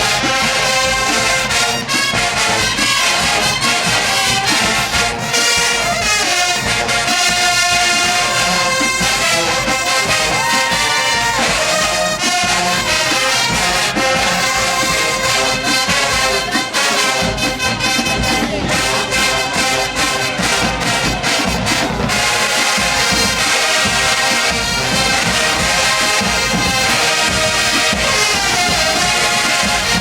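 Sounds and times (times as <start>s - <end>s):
marching band brass and drums: 0.0s - 30.0s.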